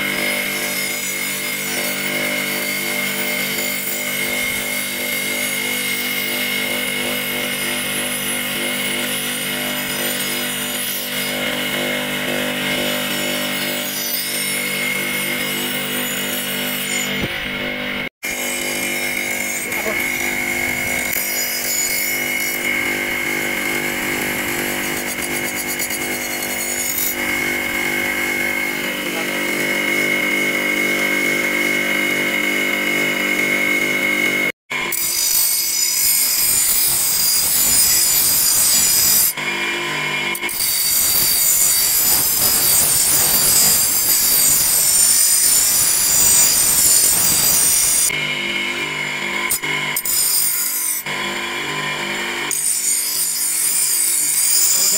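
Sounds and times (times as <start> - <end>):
electric grinder whining: 0.0 - 54.9
grinding wheel on steel: 0.0 - 54.9.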